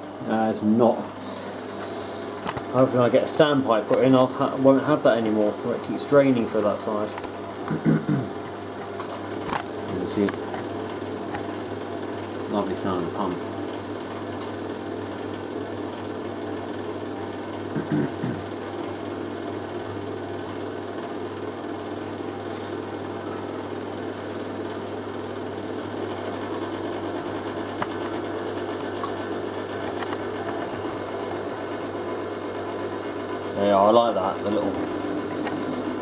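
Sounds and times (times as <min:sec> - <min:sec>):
washing machine drain pump humming: 0:00.0 - 0:36.0.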